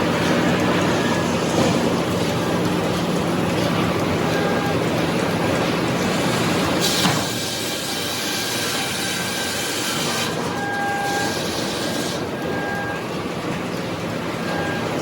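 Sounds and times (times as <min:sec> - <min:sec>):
sawmill machinery rattling: 0:00.0 - 0:15.0.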